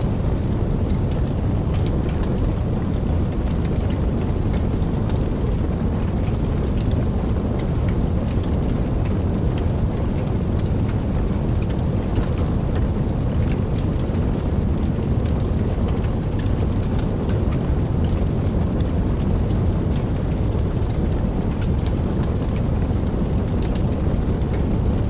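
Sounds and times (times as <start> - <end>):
campfire burning: 0.0 - 25.0.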